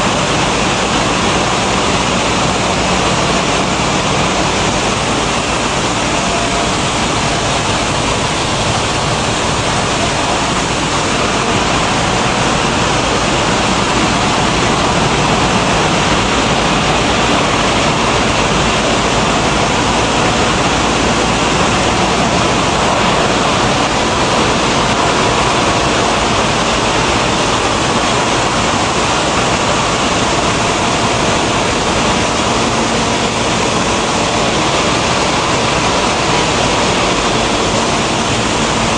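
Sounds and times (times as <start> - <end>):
milling machinery running: 0.0 - 38.9.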